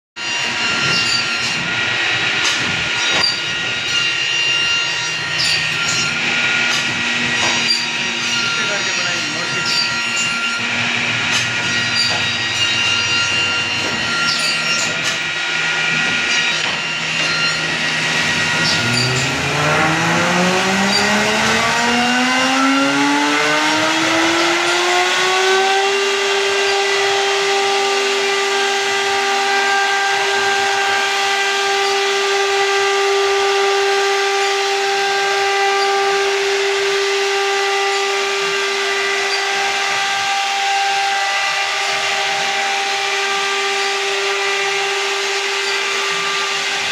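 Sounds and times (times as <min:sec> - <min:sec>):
wood router spindle whine: 0:00.2 - 0:46.9.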